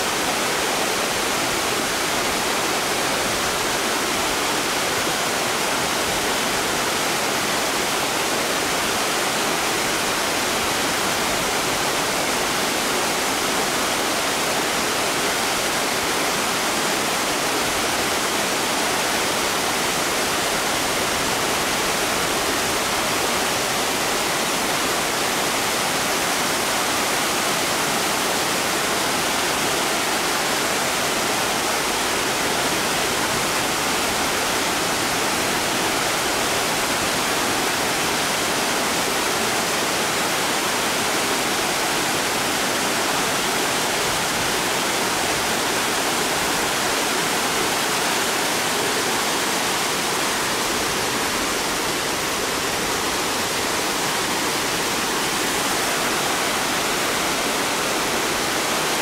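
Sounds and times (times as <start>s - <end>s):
waterfall rushing over boulders: 0.0s - 59.0s.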